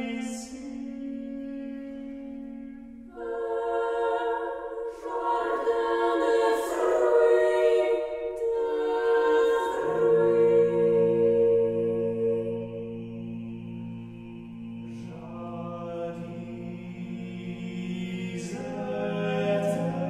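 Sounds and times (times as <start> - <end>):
a cappella ensemble singing: 0.0 - 20.0.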